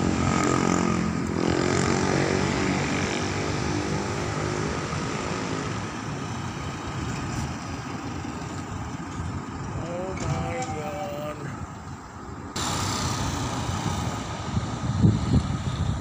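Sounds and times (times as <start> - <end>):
passing vehicle engine drone: 0.0 - 11.8, 12.5 - 16.0
traffic noise: 0.0 - 16.0.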